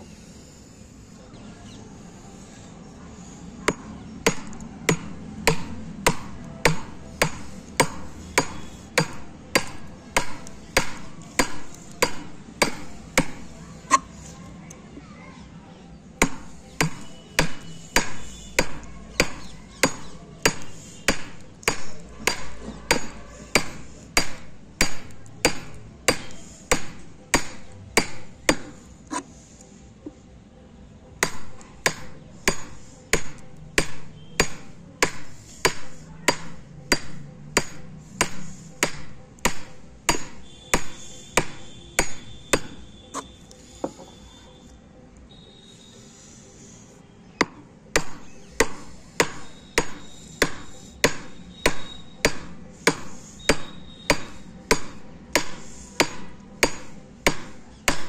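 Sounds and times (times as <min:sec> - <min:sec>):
hammer striking chisel into wood: 0:03.7 - 0:14.1, 0:16.2 - 0:29.3, 0:31.2 - 0:44.3, 0:47.4 - 0:58.0.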